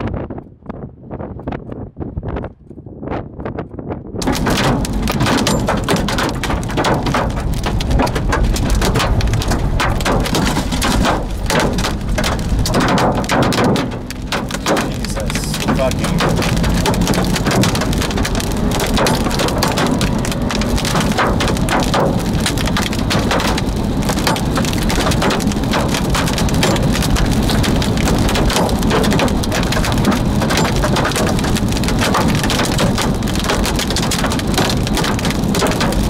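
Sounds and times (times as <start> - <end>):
heavy rain on car roof: 4.2 - 36.0.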